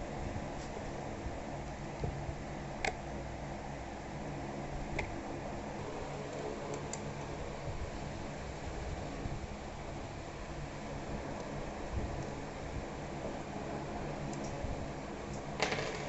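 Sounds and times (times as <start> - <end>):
steady fan hum: 0.0 - 16.0.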